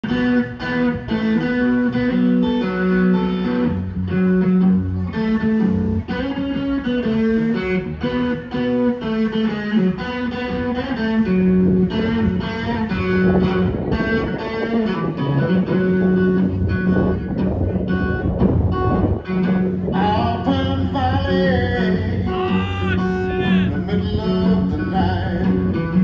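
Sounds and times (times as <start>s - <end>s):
electric guitar blues lead: 0.0s - 26.0s.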